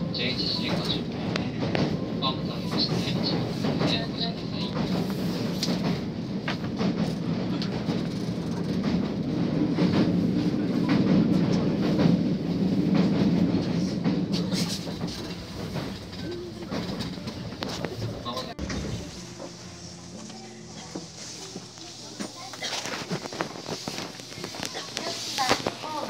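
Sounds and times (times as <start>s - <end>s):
train carriage rumbling on rails: 0.0s - 26.0s.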